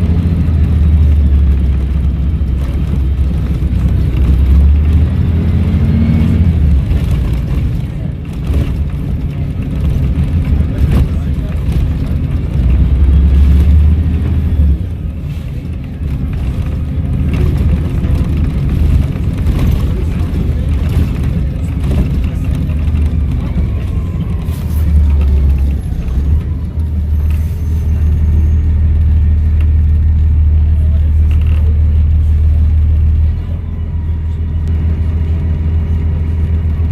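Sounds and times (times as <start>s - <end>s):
diesel bus engine rumble: 0.0s - 36.9s.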